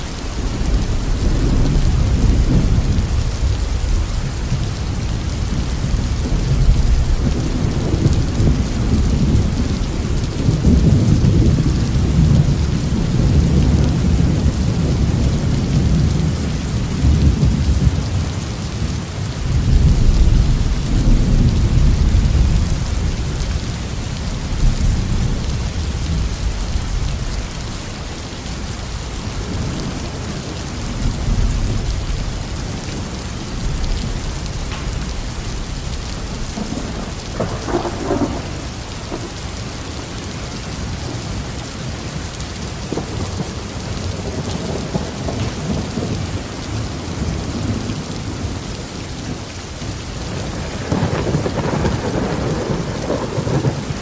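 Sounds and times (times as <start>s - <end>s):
heavy rain on a roof: 0.0s - 54.0s
deep rolling thunder: 0.2s - 18.4s, 19.4s - 27.6s, 29.3s - 39.5s, 42.8s - 48.6s, 50.3s - 54.0s.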